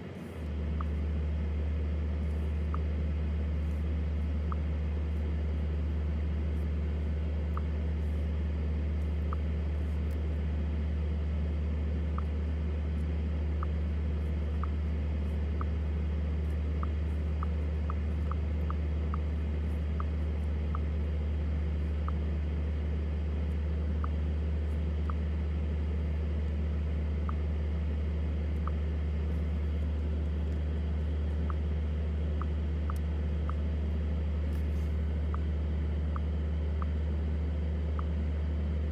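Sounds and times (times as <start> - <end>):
car driving drone: 0.0 - 38.9.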